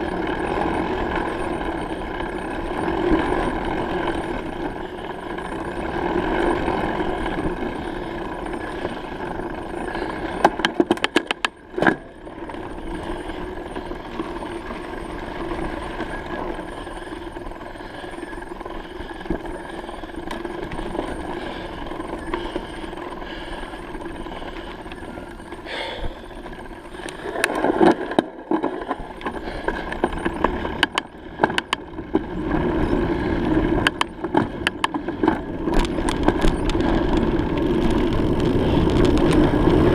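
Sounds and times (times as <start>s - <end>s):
bicycle tyres rumbling: 0.0s - 39.9s
wind: 0.0s - 39.9s.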